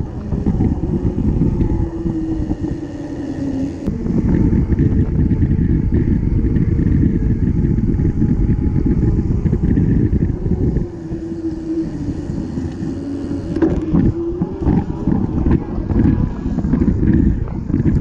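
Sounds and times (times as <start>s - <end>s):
bike tyres rolling on asphalt: 0.0s - 18.0s
wind buffeting microphone: 0.0s - 18.0s.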